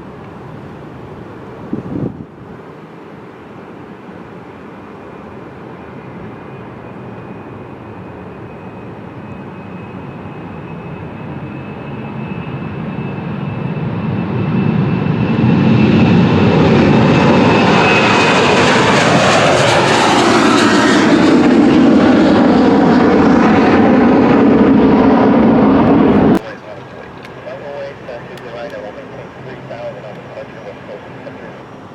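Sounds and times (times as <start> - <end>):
jet aircraft passing: 0.0 - 31.9.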